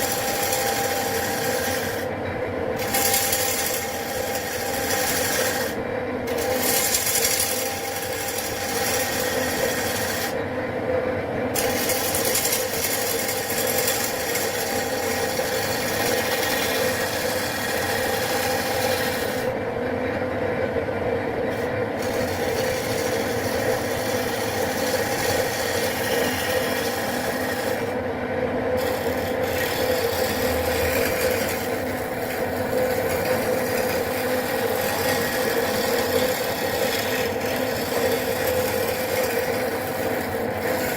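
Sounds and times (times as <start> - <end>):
tool scraping spinning wood: 0.0 - 10.4, 11.5 - 19.6, 21.4 - 40.9
lathe motor hum: 0.0 - 10.6, 11.3 - 40.9.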